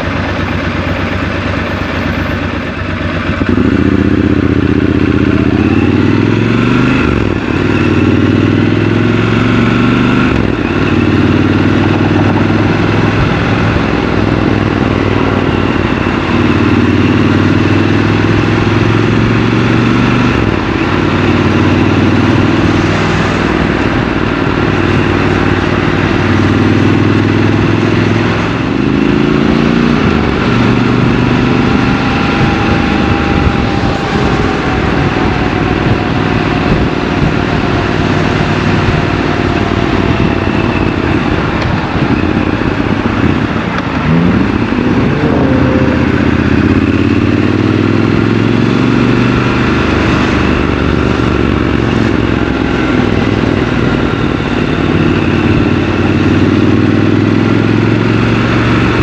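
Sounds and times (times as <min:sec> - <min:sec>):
city traffic: 0:00.0 - 0:59.0
motorcycle engine pulling away: 0:00.2 - 0:59.0.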